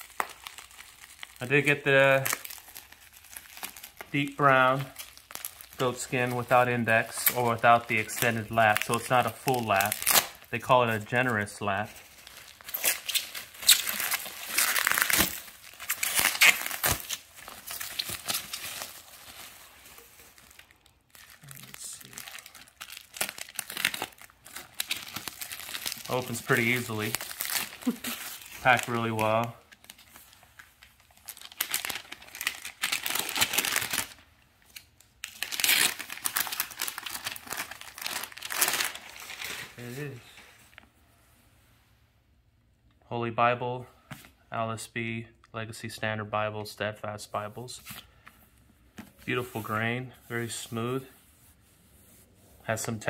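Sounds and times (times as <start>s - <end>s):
bubble wrap crinkling: 0.0s - 40.9s, 48.8s - 52.9s.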